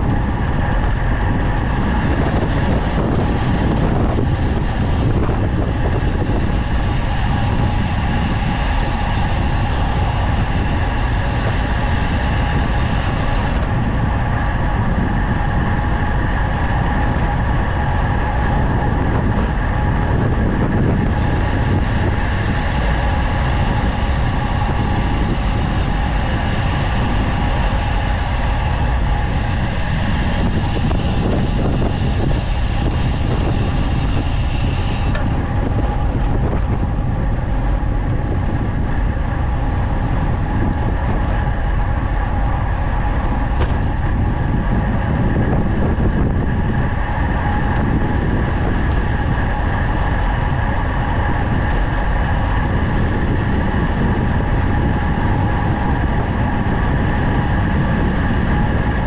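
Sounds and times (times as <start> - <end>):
faint steady whine: 0.0 - 59.0
wind buffeting microphone: 0.0 - 59.0.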